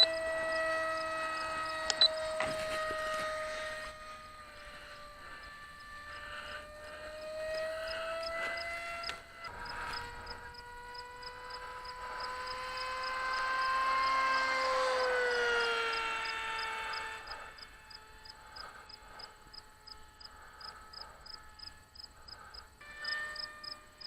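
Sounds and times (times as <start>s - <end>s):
model aircraft motor whine: 0.0s - 24.0s.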